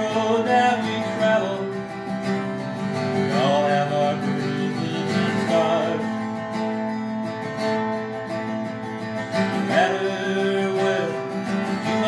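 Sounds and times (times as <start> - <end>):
acoustic guitar strumming: 0.0 - 12.0
man singing: 0.0 - 12.0.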